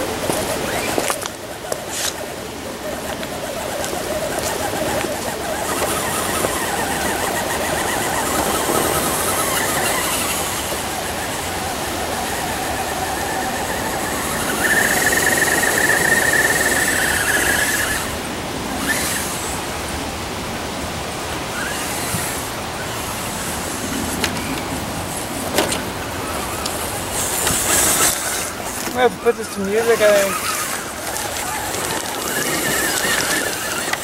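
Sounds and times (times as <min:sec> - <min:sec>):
toy truck electric motor whining: 0:00.0 - 0:18.2, 0:18.8 - 0:19.7, 0:21.5 - 0:34.0.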